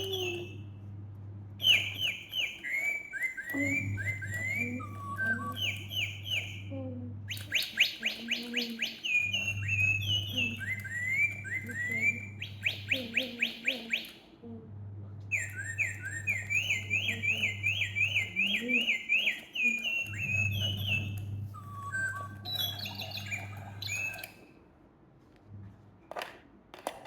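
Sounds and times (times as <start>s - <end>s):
bird toy chirping and trilling: 0.0s - 0.6s, 1.6s - 6.7s, 7.3s - 14.4s, 15.3s - 24.5s
low steady hum: 0.0s - 27.0s.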